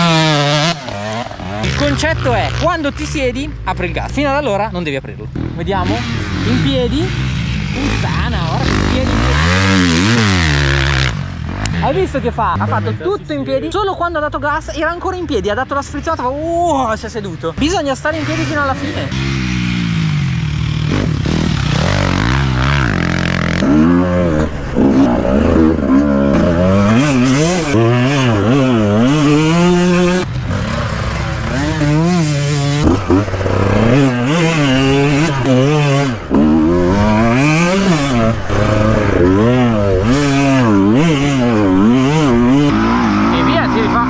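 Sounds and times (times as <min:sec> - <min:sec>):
dirt bike engine revving: 0:00.0 - 0:04.2, 0:05.3 - 0:13.1, 0:17.9 - 0:44.0.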